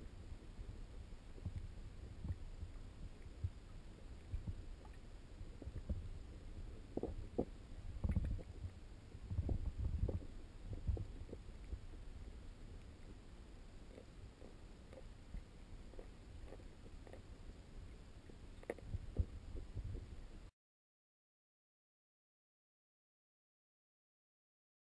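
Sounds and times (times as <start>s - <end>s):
underwater rumbles and thumps: 0.0s - 20.5s.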